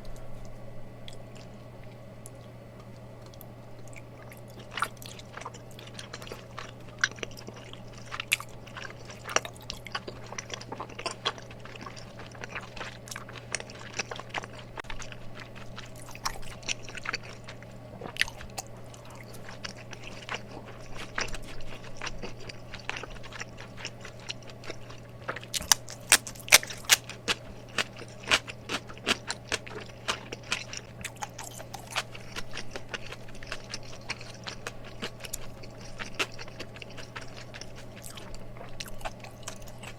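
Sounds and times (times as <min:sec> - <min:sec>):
steady low hum: 0:00.0 - 0:39.9
close chewing mouth sounds: 0:00.1 - 0:39.9.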